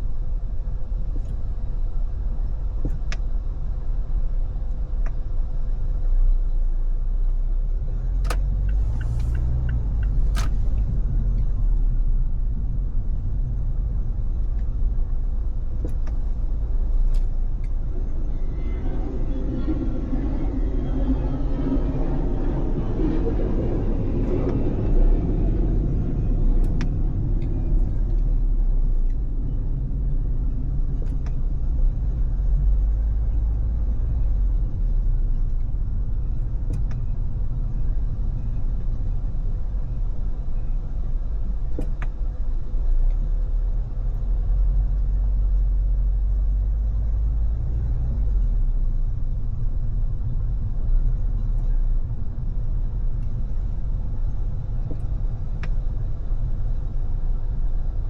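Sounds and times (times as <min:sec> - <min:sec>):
car road rumble: 0:00.0 - 0:58.0.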